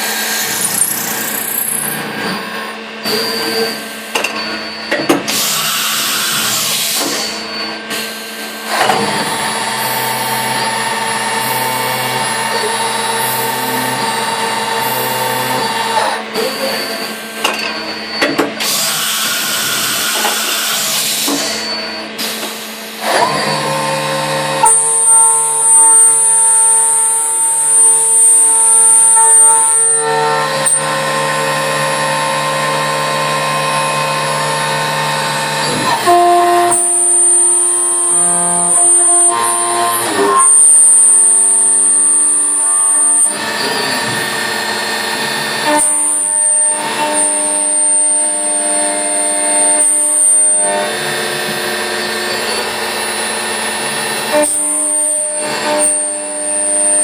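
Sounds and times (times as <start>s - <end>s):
milling machine whining: 0.0s - 57.0s.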